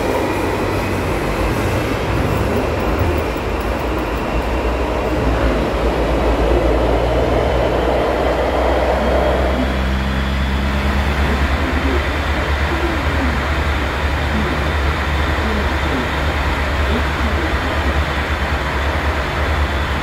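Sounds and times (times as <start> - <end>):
low motor hum: 0.0 - 20.0
rushing noise: 0.0 - 20.0
train wheels rumbling on rails: 0.0 - 20.0.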